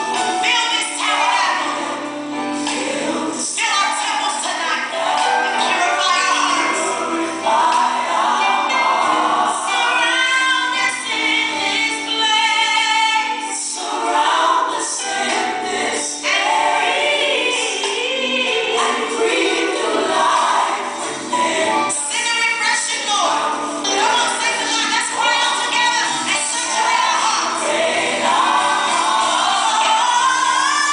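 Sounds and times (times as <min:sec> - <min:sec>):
choir singing gospel song: 0:00.0 - 0:30.9.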